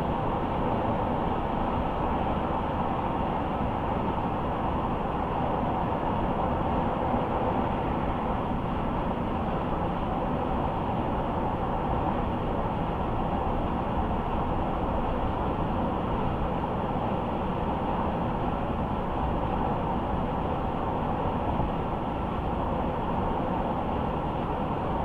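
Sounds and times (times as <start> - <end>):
car road noise at speed: 0.0 - 25.0.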